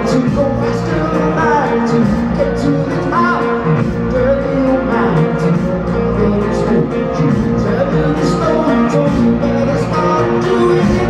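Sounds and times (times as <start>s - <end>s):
bass guitar: 0.0s - 11.0s
drum kit: 0.0s - 11.0s
electric guitar: 0.0s - 11.0s
keyboards: 0.0s - 11.0s
lead vocal singing: 0.0s - 11.0s.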